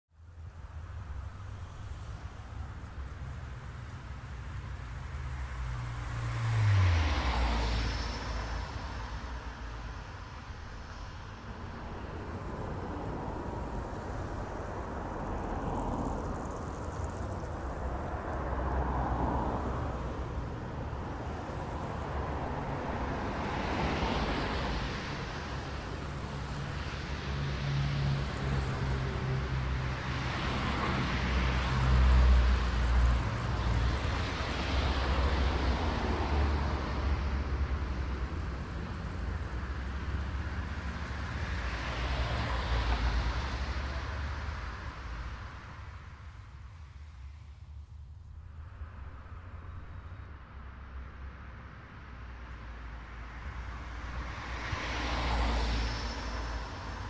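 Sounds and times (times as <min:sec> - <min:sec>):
cars passing: 0:00.4 - 0:57.0.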